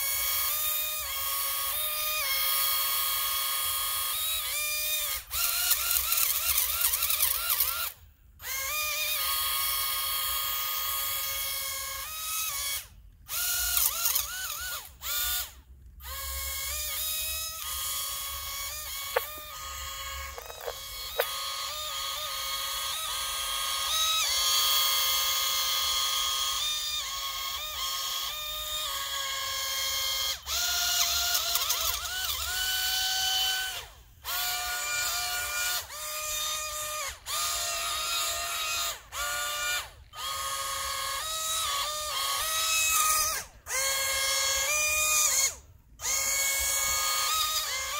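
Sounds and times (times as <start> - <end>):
toy car electric motors whining: 0.0 - 47.9.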